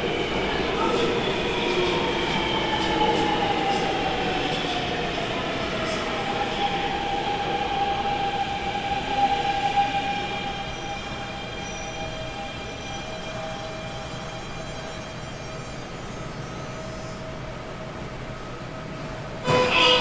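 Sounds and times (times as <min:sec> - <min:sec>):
subway train braking whine: 0:00.0 - 0:20.0
train rumble: 0:00.0 - 0:20.0.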